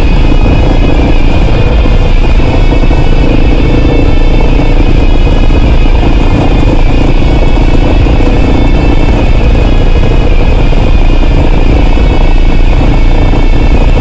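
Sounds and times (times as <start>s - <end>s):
motorcycle engine running: 0.0s - 14.0s
road rumble: 0.0s - 14.0s
wind on microphone: 0.0s - 14.0s.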